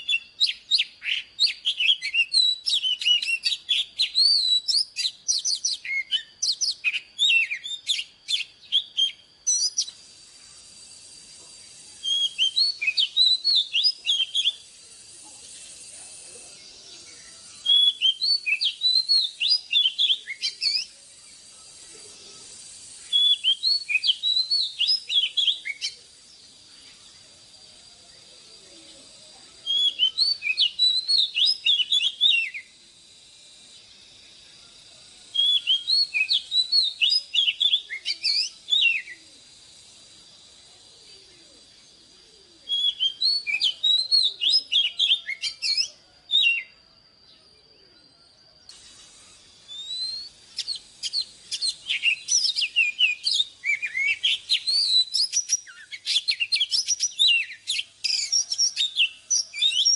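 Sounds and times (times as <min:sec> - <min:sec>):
bird singing whistled notes: 0:00.0 - 0:59.9.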